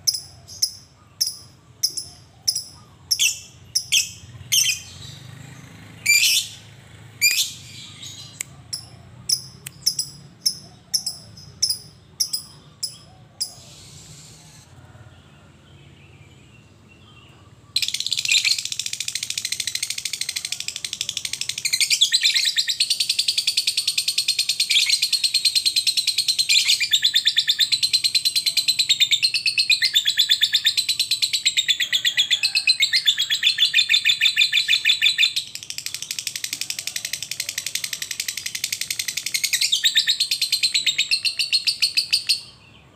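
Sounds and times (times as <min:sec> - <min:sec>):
lovebird chattering trill: 0:00.0 - 0:05.0, 0:07.2 - 0:14.6, 0:17.8 - 0:42.6
lovebird chirping: 0:00.0 - 0:14.7, 0:16.2 - 0:42.9.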